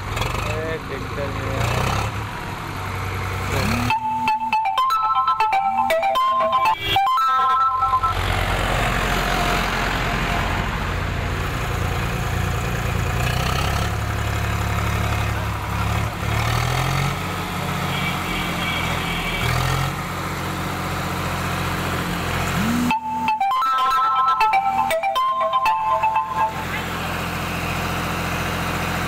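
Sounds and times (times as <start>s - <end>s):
tractor diesel engine idling: 0.0s - 23.0s, 23.6s - 29.0s.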